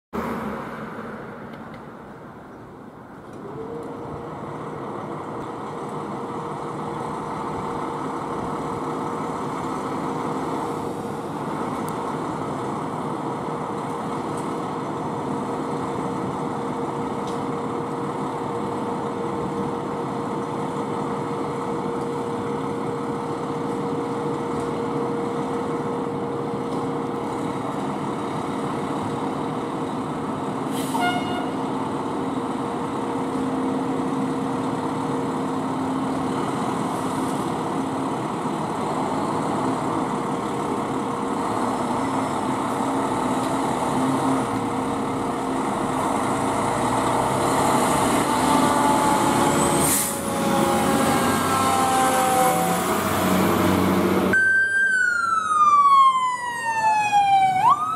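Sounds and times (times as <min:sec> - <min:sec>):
diesel engines running: 0:00.2 - 0:57.9.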